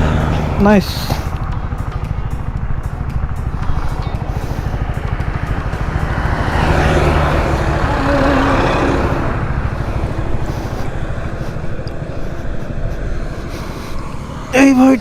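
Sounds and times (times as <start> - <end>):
motorcycle engine at highway speed: 0.0 - 15.0
road noise: 0.0 - 15.0.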